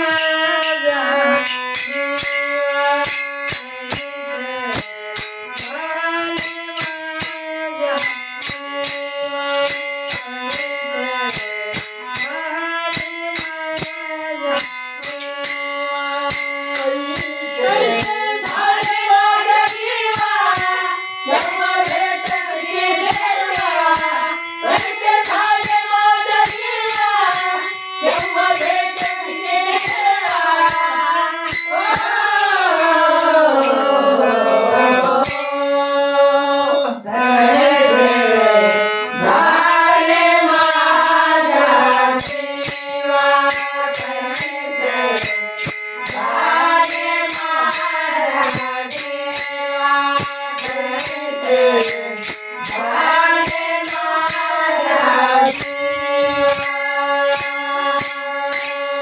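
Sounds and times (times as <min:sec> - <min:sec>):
hand percussion beat: 0:00.0 - 0:35.9, 0:37.1 - 0:59.0
woman singing devotional song: 0:00.0 - 0:59.0.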